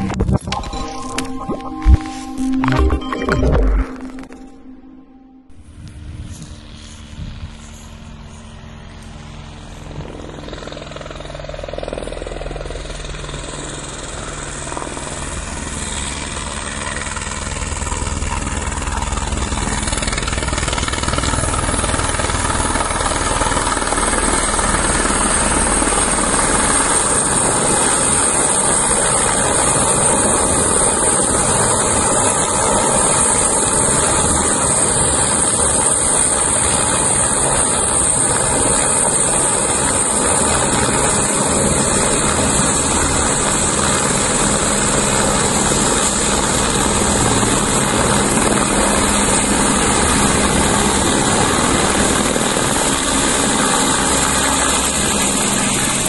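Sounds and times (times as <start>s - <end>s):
helicopter rotor: 6.5s - 56.0s.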